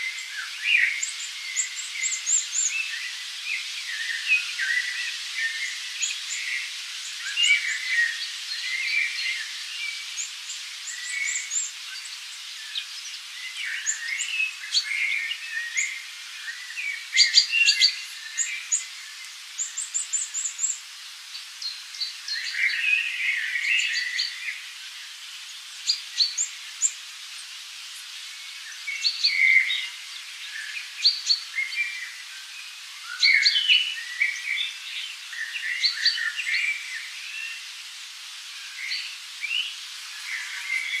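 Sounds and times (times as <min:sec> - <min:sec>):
faint steady hiss: 0:00.0 - 0:41.0
small birds chirping: 0:00.0 - 0:41.0.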